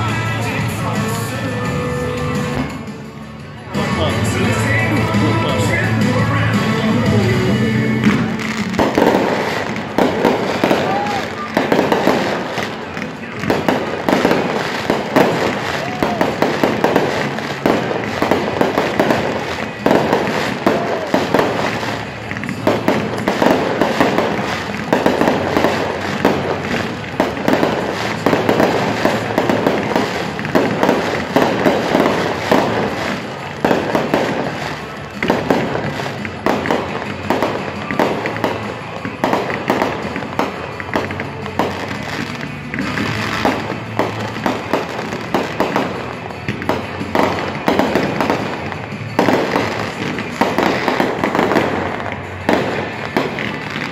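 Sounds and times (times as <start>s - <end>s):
fireworks bangs and crackling: 0.0s - 53.9s
music playing: 0.0s - 53.9s.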